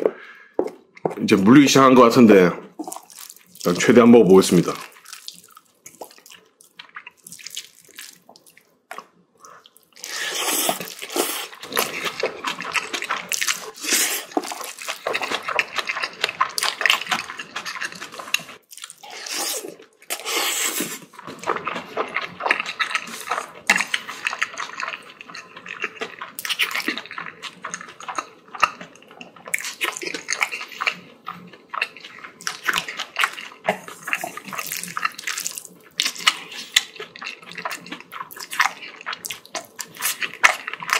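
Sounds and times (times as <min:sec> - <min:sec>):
wet chewing and mouth sounds: 0:02.7 - 0:40.9.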